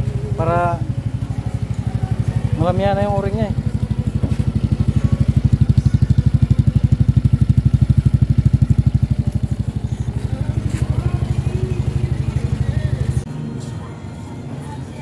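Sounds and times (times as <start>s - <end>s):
motorcycle engine idling: 0.0s - 13.3s.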